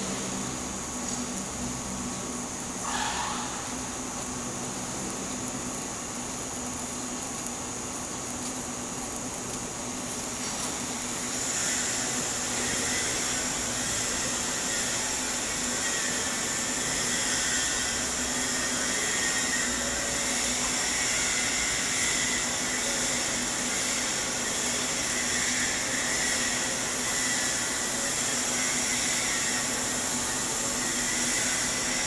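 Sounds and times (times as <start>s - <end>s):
welding arc frying hiss: 0.0s - 32.0s.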